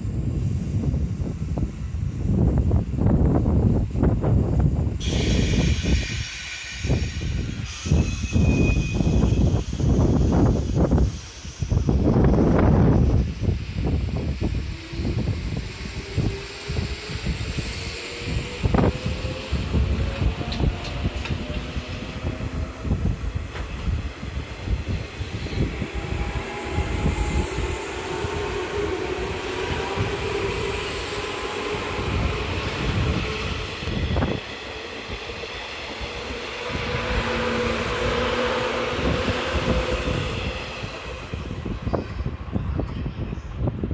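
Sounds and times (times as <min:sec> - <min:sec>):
electric train motors humming: 0:00.1 - 0:43.0
train wheels rumbling: 0:02.4 - 0:43.9.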